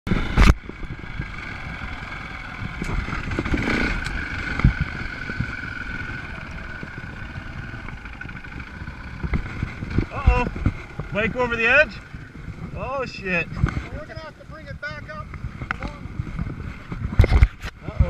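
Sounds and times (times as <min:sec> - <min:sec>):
dirt bike engine running: 0:00.1 - 0:18.0.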